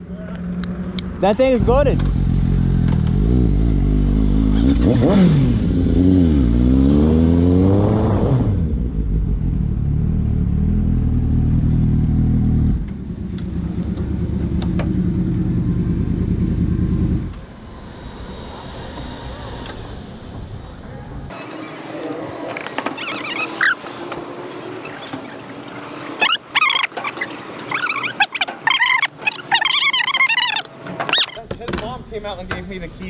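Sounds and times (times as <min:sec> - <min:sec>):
motorcycle engines revving: 0:00.3 - 0:17.7, 0:21.3 - 0:31.4.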